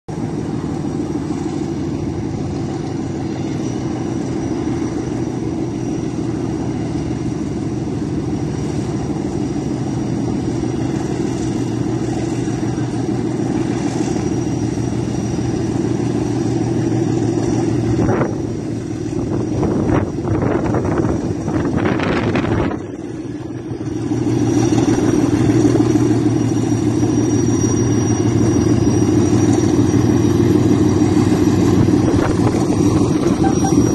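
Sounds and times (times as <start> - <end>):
locomotive diesel engine drone: 0.1 - 33.9.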